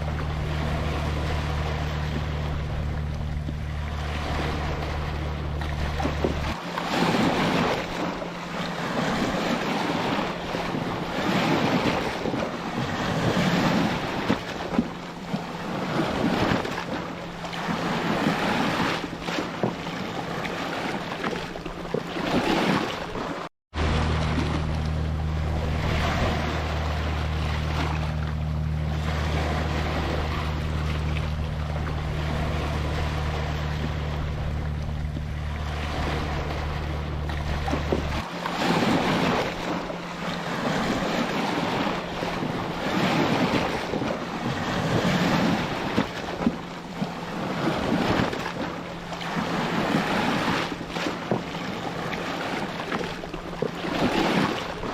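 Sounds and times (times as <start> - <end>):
ocean surf on a beach: 0.0 - 3.1, 3.7 - 54.9
steady low hum: 0.0 - 20.8, 23.8 - 54.9.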